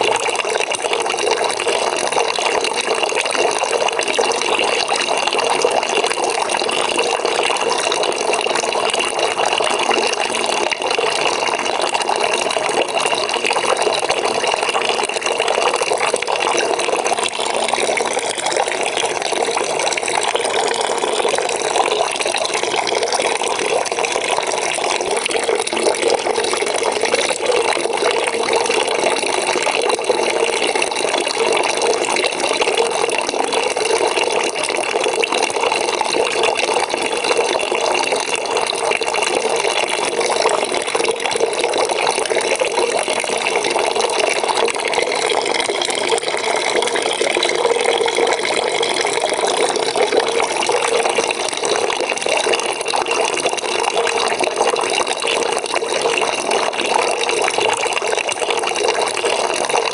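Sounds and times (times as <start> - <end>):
tap water pouring into bucket: 0.0 - 59.9.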